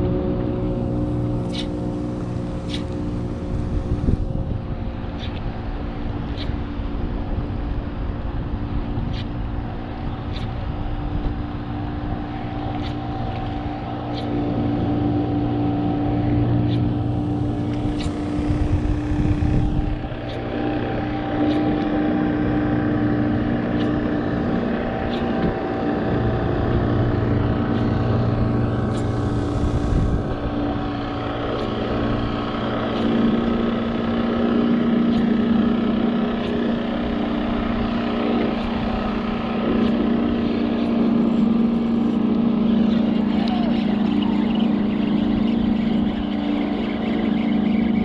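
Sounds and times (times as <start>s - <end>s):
motorboat engine humming: 0.0s - 48.0s.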